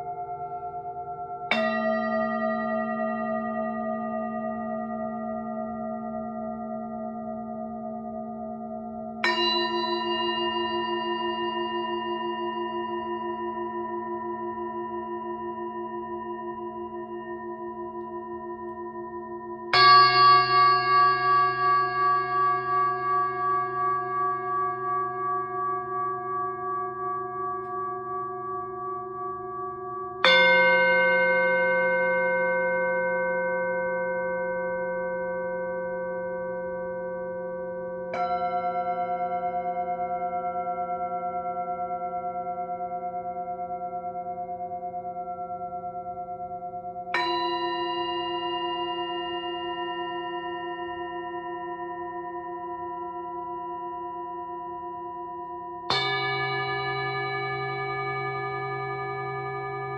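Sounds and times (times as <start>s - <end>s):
singing bowl ringing: 0.0s - 36.1s, 38.0s - 59.9s.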